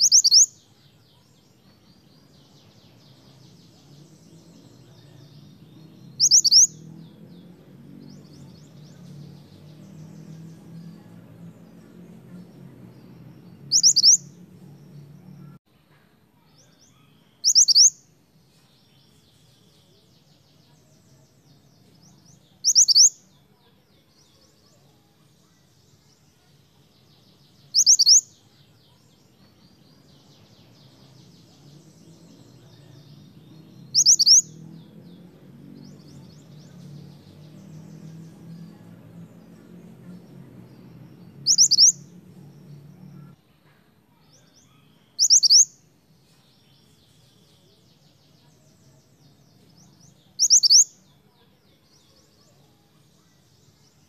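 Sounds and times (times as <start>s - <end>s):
faint high chatter: 0.0s - 54.0s.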